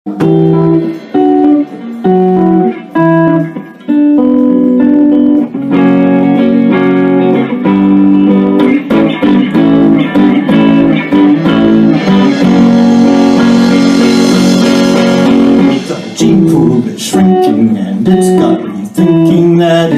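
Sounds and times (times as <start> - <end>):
electric guitar riff: 0.1 - 19.9
live rock band playing: 0.1 - 19.9.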